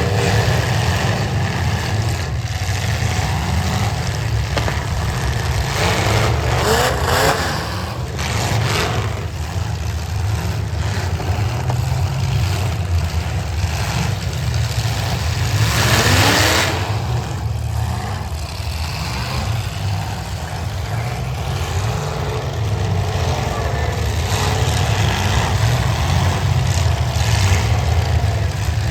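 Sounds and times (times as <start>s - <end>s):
car engines revving: 0.0s - 28.9s.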